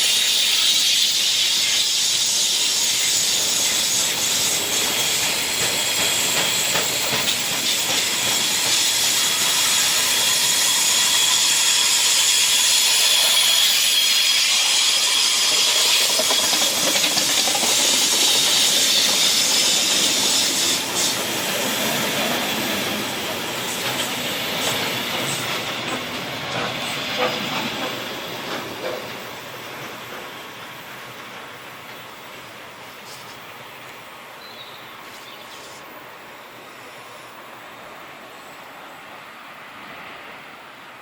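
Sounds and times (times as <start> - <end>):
train wheels squealing on rails: 0.0 - 40.8.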